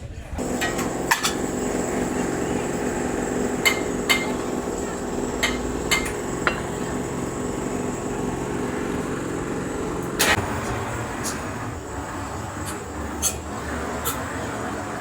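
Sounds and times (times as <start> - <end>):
workshop machinery droning: 0.4 - 15.0.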